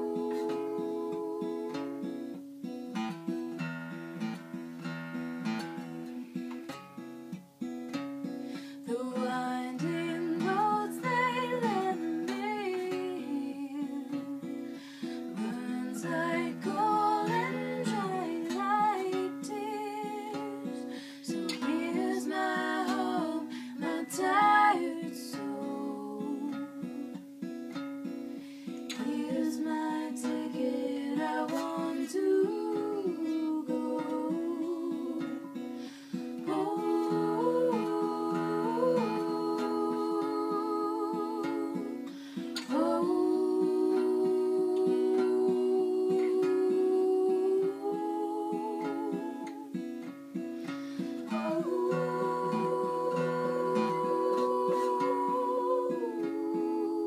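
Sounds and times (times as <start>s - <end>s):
woman singing: 0.0s - 2.4s, 8.8s - 27.2s, 28.9s - 50.1s, 51.0s - 57.0s
acoustic guitar strumming: 0.0s - 57.0s.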